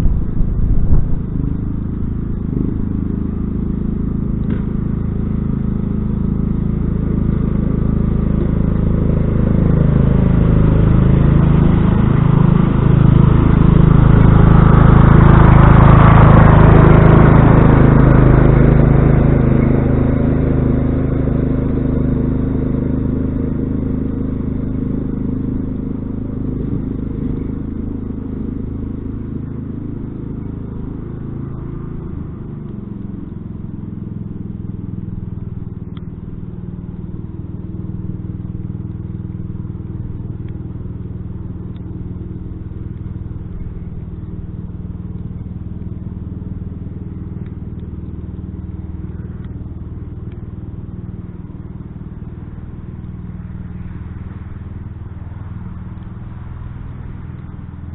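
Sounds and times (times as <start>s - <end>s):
lawn tractor engine running: 0.0s - 57.9s.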